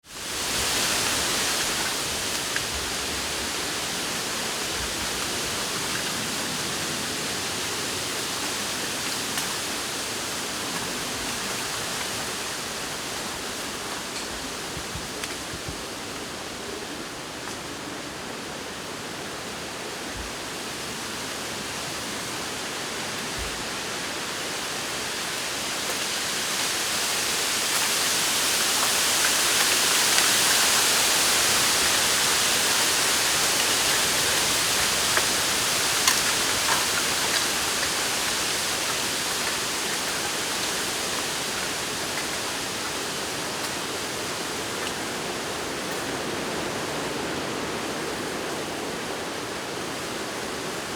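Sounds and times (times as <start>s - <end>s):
wind rustling bamboo leaves: 0.0s - 50.9s.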